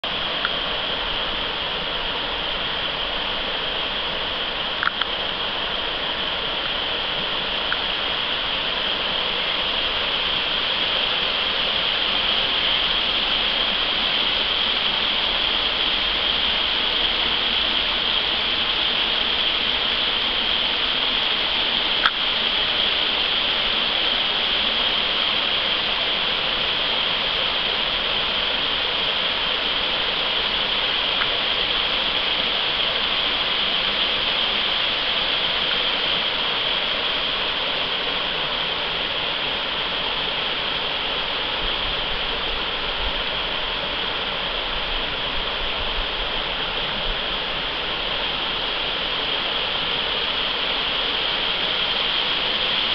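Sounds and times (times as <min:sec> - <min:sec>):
creek water rushing over rocks: 0:00.0 - 0:52.9.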